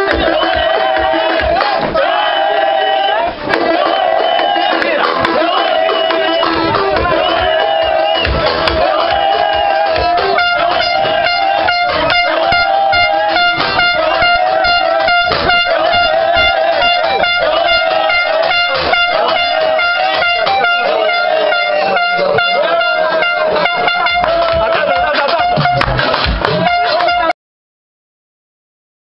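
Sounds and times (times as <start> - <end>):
voices: 0.0 - 27.3
people clapping: 0.0 - 27.4
plastic stadium horns blaring: 0.0 - 27.4.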